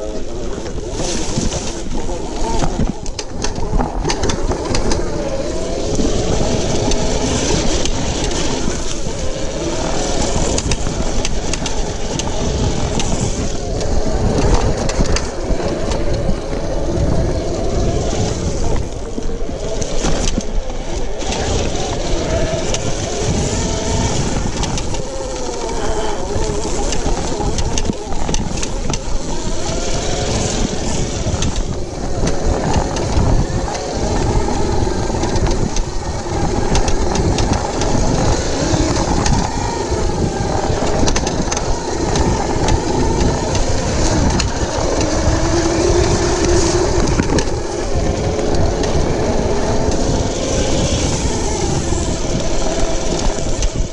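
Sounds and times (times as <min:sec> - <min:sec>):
electric motor whine: 0:00.0 - 0:53.9
tyres rumbling over rocky trail: 0:00.0 - 0:53.9.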